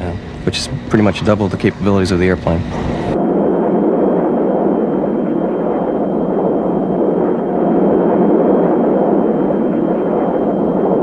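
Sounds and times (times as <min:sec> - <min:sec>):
faint high whine: 0:00.0 - 0:11.0
jet aircraft flying overhead: 0:00.0 - 0:11.0.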